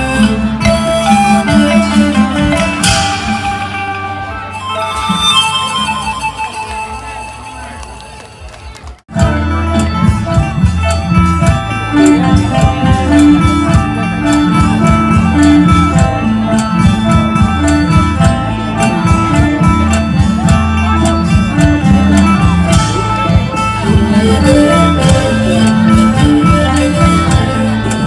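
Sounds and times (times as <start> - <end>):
plucked-string melody: 0.0 - 7.8, 9.1 - 28.0
busy drumming: 0.4 - 7.2, 9.1 - 28.0.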